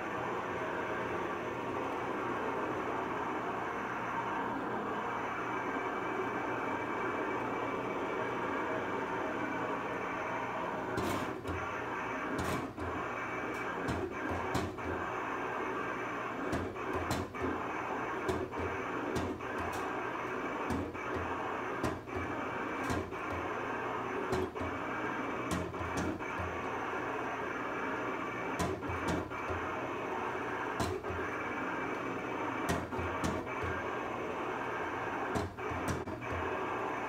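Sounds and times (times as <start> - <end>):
cutting plotter head whirring: 0.0 - 37.0.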